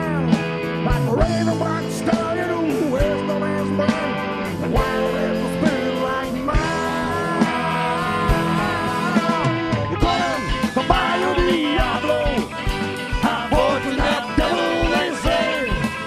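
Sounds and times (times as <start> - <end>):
country-rock band playing: 0.0 - 16.0.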